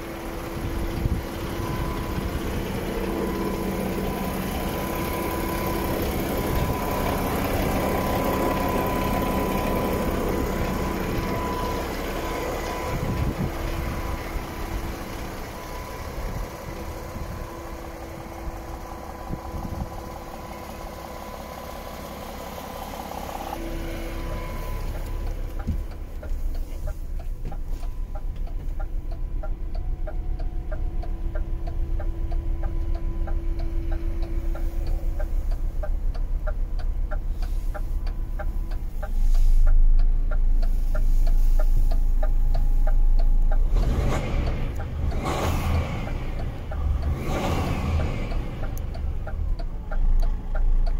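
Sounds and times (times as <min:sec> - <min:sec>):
diesel engine idling: 0:00.0 - 0:50.9
light ticking: 0:04.8 - 0:21.4, 0:24.3 - 0:50.9.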